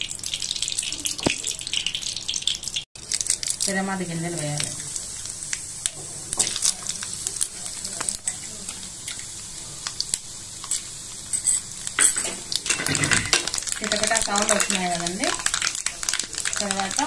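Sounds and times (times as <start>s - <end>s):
seeds sizzling and popping in oil: 0.0s - 17.0s.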